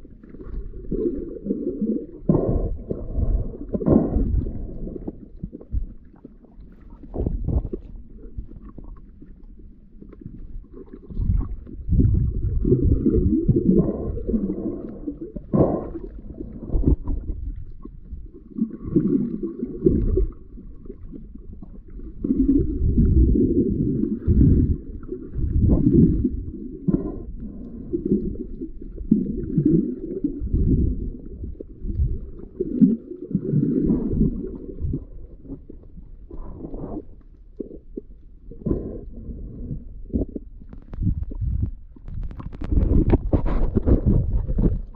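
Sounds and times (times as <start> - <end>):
muffled underwater sloshing: 0.0 - 44.9.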